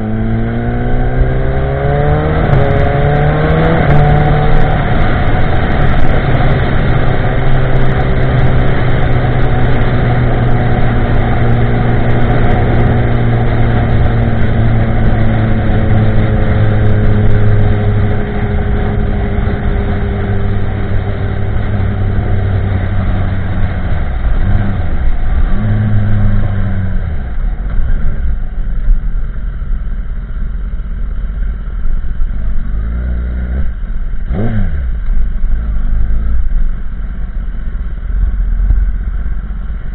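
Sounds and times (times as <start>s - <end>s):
motorcycle engine revving: 0.0s - 28.6s, 32.3s - 37.2s.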